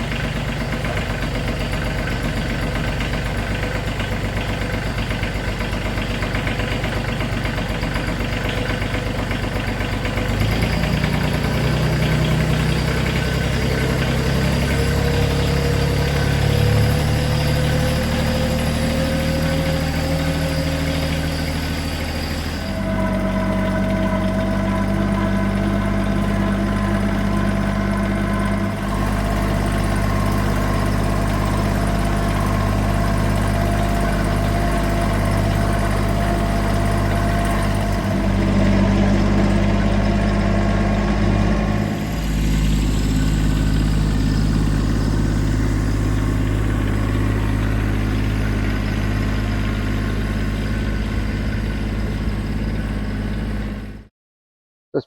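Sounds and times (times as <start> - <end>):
vehicle engine running: 0.0 - 54.1.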